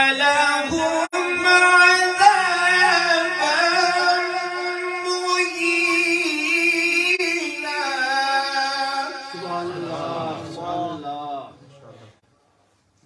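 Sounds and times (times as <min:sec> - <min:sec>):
man reciting melodically: 0:00.0 - 0:12.2.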